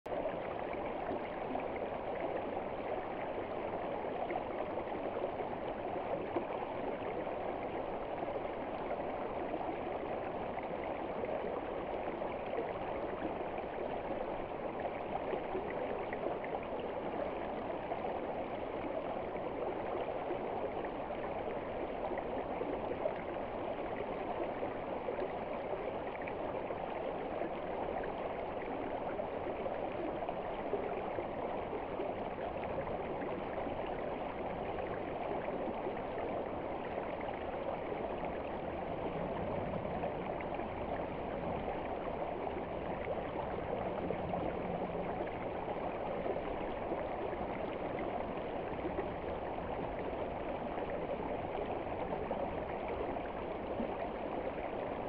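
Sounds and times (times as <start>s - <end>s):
stream running over rocks: 0.1s - 55.0s.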